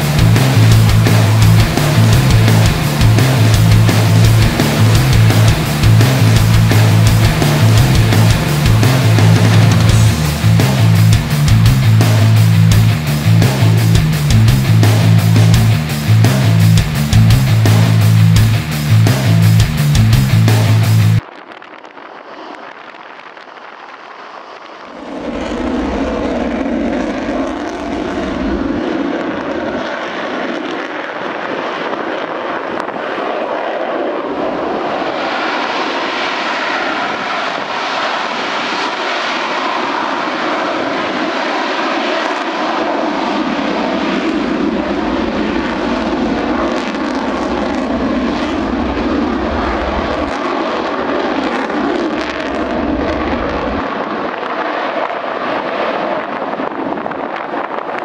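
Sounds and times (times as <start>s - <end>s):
jet taking off: 0.0s - 58.0s.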